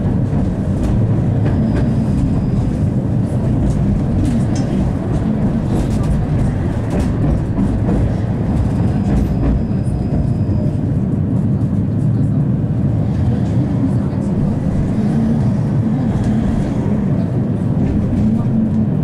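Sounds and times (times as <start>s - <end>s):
tram wheels rumbling on rail: 0.0s - 19.0s.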